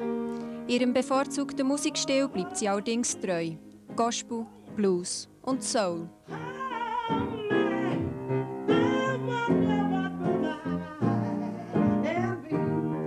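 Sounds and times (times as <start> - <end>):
grand piano accompaniment: 0.0 - 13.0
woman singing: 0.7 - 13.0.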